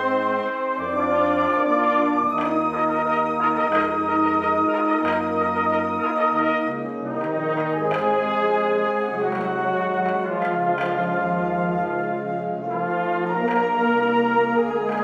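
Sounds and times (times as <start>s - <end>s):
brass ensemble music: 0.0s - 15.0s.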